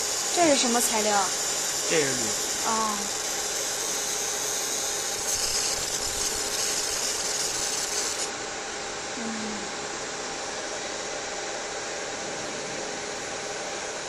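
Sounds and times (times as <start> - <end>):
machine fan noise: 0.0 - 14.0.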